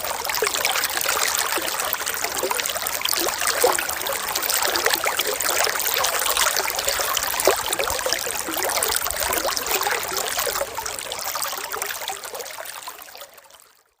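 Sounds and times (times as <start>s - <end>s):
water trickling and babbling: 0.0s - 14.0s.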